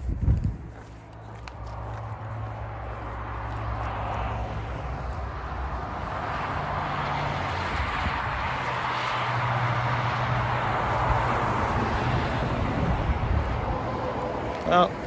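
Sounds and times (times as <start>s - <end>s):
highway traffic rushing: 0.0s - 15.0s
low engine hum: 0.0s - 15.0s.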